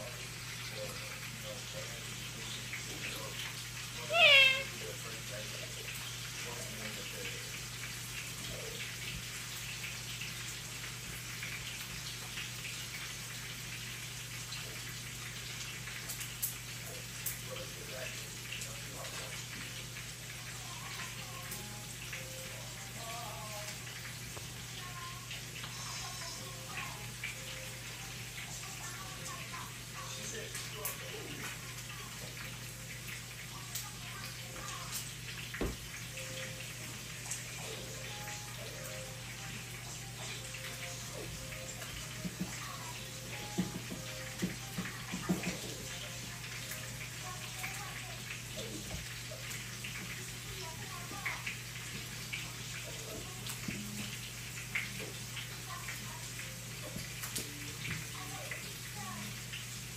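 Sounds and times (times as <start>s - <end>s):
hissing kitchen noise: 0.0s - 59.9s.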